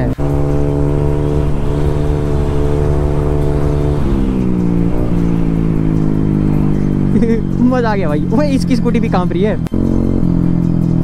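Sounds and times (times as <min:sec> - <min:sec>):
wind rumble: 0:00.0 - 0:09.7
scooter engine humming: 0:00.0 - 0:11.0.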